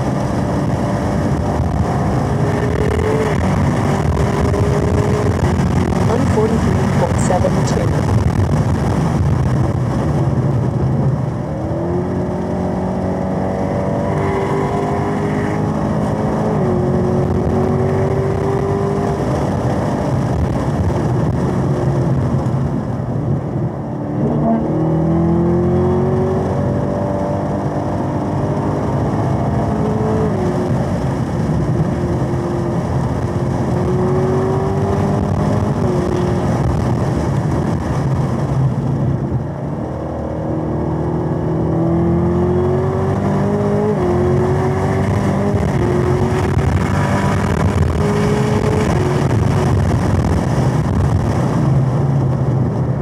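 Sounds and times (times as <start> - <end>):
car engine at full throttle: 0.0 - 53.0.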